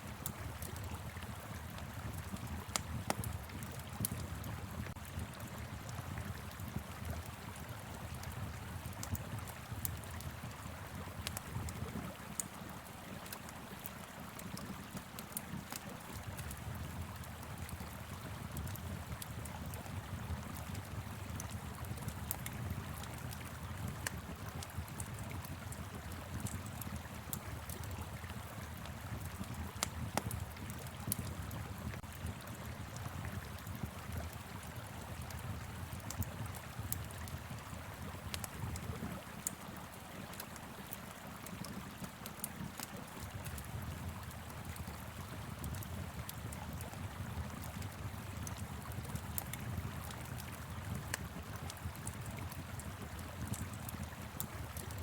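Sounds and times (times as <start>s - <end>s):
wood fire crackling: 0.1s - 55.0s.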